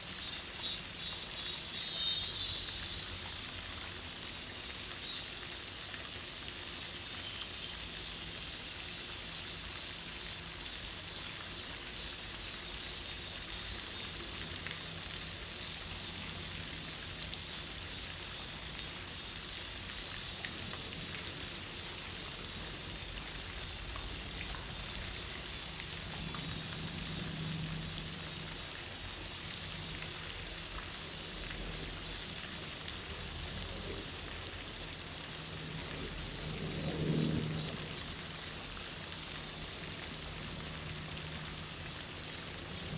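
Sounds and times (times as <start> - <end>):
cicadas chorus: 0.0 - 42.9.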